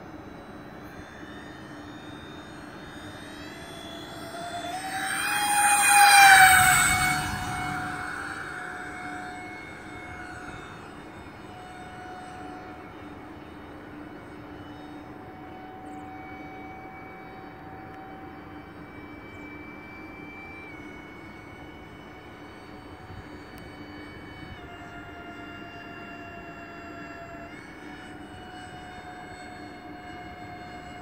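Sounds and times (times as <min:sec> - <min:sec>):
model airplane electric fans whining: 0:00.0 - 0:31.0.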